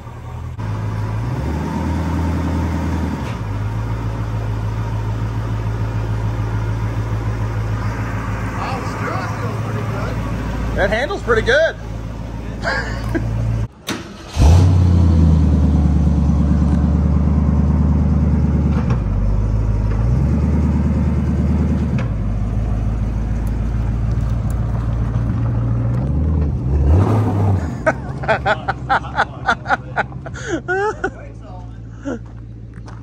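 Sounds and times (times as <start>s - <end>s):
car engine running: 3.6s - 33.0s.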